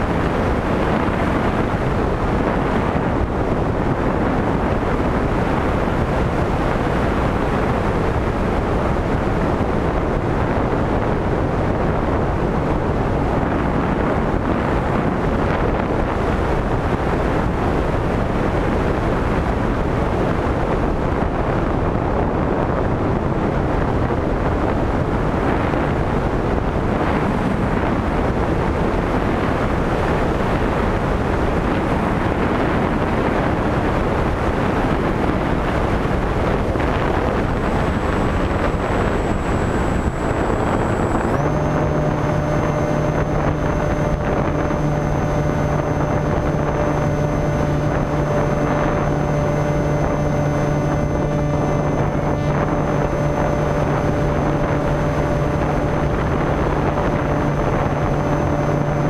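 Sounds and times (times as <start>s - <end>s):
airflow rushing over microphone: 0.0s - 59.0s.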